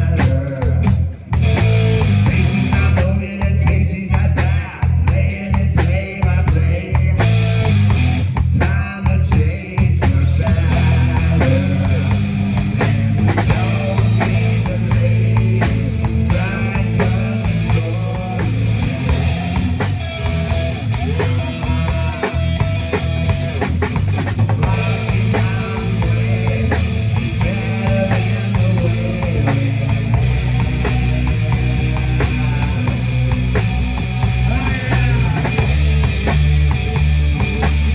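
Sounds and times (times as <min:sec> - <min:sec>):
bass guitar: 0:00.0 - 0:37.9
drum kit: 0:00.0 - 0:37.9
electric guitar: 0:00.0 - 0:37.9.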